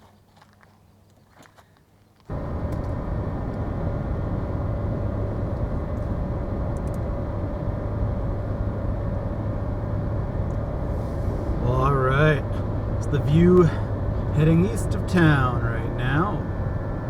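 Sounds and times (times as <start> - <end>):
engine and road noise drone: 2.3 - 17.0.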